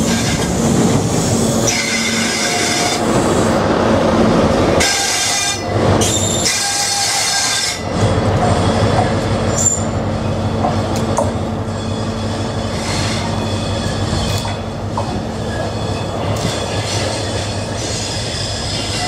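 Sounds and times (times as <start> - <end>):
diesel locomotive engine running: 0.0 - 19.0
train wheels on rails: 0.0 - 19.0.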